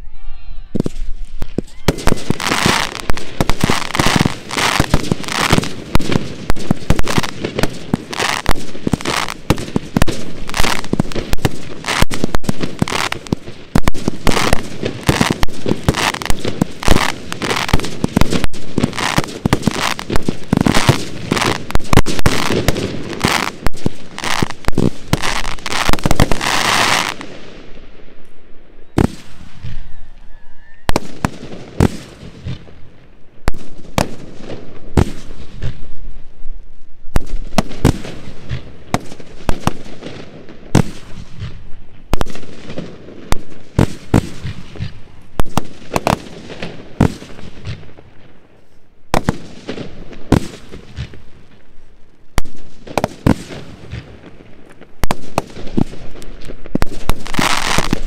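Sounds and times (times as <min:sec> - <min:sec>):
fireworks crackling: 0:00.6 - 0:29.8, 0:30.9 - 0:58.0
fireworks bangs: 0:00.7 - 0:28.1, 0:28.8 - 0:29.9, 0:30.8 - 0:36.0, 0:37.1 - 0:58.0.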